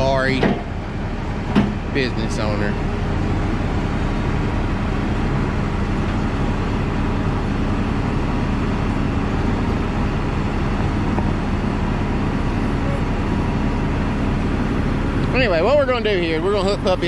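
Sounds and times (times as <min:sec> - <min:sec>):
heavy diesel engine drone: 0:00.0 - 0:17.0.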